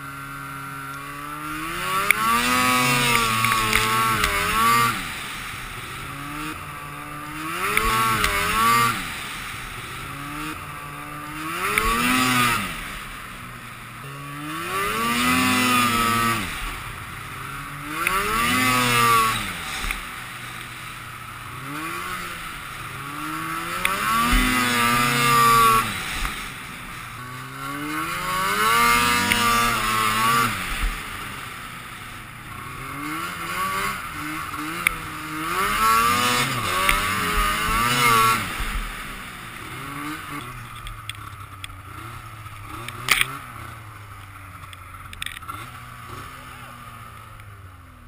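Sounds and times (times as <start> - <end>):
snowmobile engine revving: 0.0 - 48.0.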